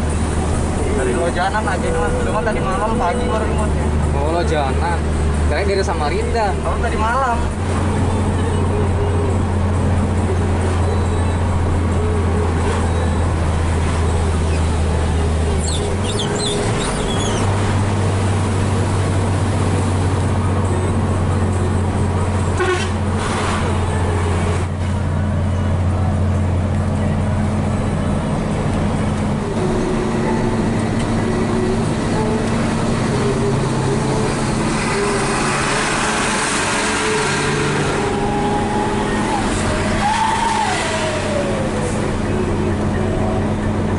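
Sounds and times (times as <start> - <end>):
diesel truck engine droning: 0.0 - 43.9
road noise: 0.0 - 43.9.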